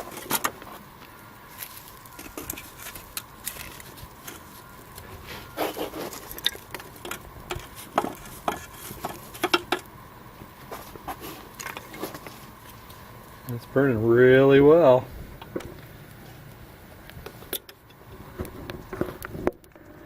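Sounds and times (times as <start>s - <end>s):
nest burning with crackling pops: 0.0s - 20.0s.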